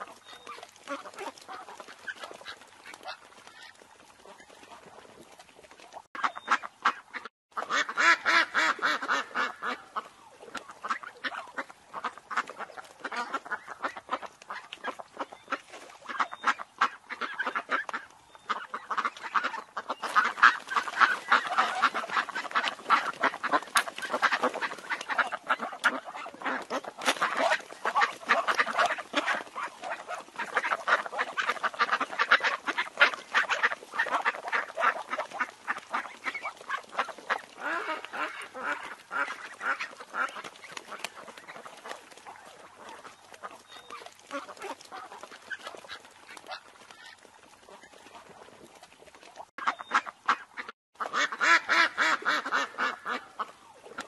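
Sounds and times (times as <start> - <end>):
ducks quacking: 0.0 - 5.1, 6.2 - 48.9, 49.6 - 54.0.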